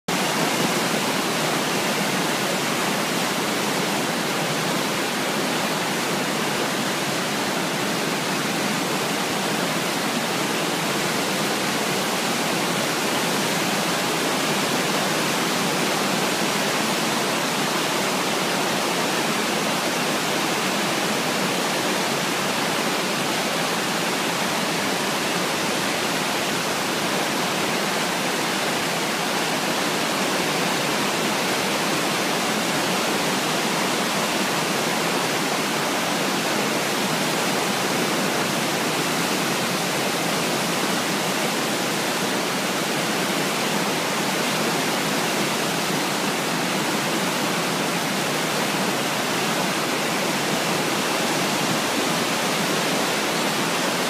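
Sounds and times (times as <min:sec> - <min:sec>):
floodwater rushing through rapids: 0:00.1 - 0:54.0.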